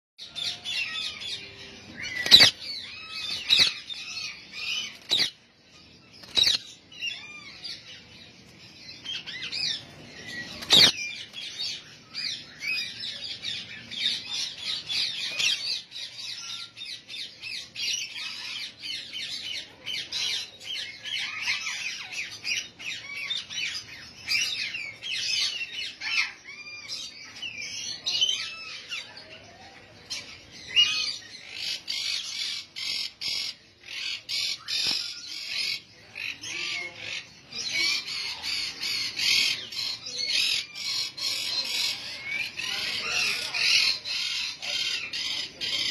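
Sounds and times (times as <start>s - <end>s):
parakeets chirping and squawking: 0.2s - 45.9s.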